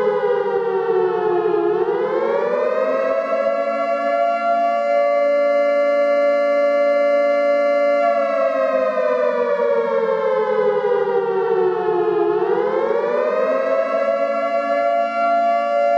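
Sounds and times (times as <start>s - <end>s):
siren-like wailing tone: 0.0s - 15.9s.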